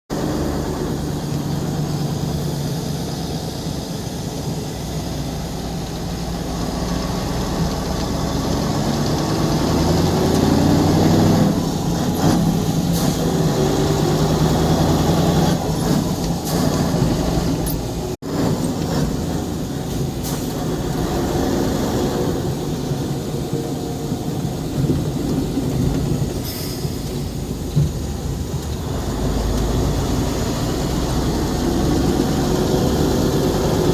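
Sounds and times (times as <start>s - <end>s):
truck diesel engine: 0.1s - 33.9s.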